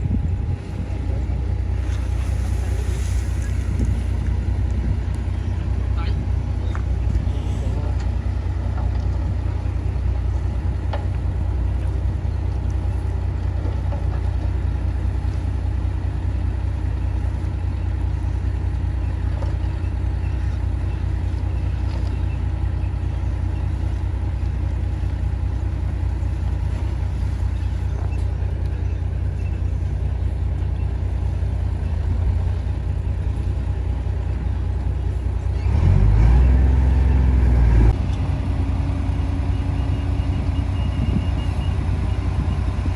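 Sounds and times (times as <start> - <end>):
heavy diesel engine rumbling: 0.0 - 42.9.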